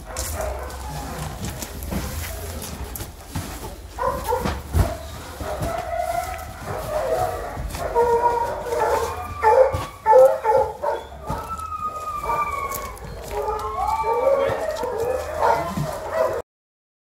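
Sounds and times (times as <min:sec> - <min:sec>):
dogs barking and howling: 0:00.0 - 0:03.1, 0:03.7 - 0:16.4.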